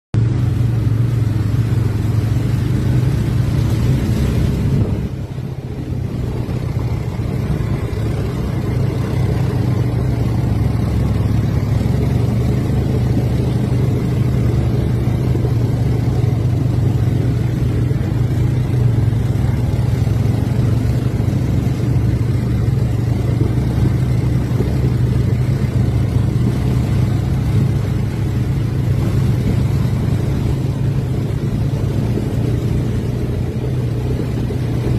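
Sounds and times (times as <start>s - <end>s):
quad bike engine running: 0.2s - 34.9s.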